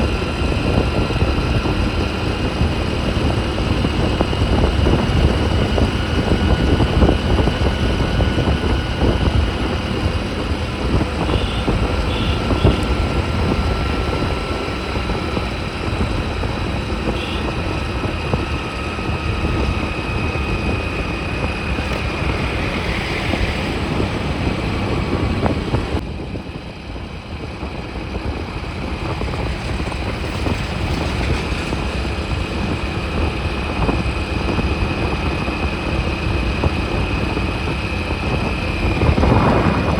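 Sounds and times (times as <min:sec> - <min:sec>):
motorbike engine drone: 0:00.0 - 0:39.9
road and wind rumble: 0:00.0 - 0:39.9.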